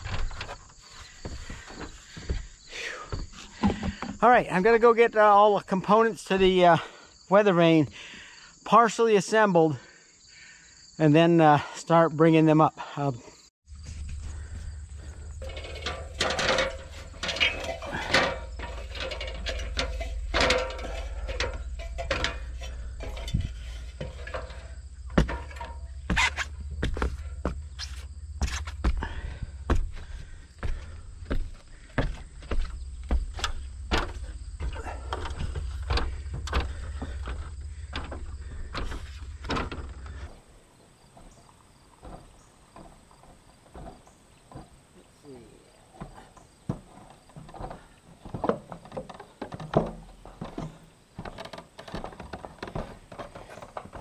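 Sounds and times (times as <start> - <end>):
metal ladder clanking and creaking: 0.0 - 6.9, 13.8 - 40.4, 41.3 - 44.8, 46.0 - 54.0
footsteps on metal rungs: 0.0 - 7.0, 13.7 - 40.4, 41.1 - 45.0, 45.9 - 54.0.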